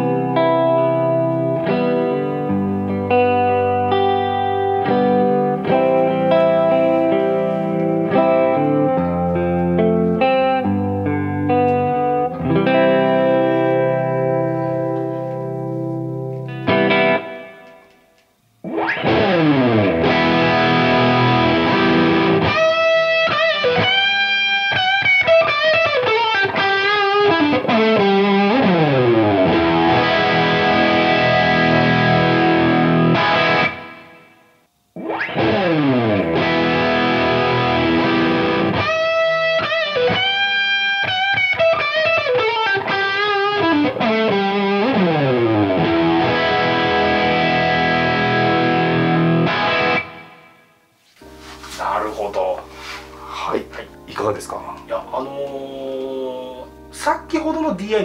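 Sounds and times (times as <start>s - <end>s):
distorted electric guitar lead: 0.0s - 58.0s.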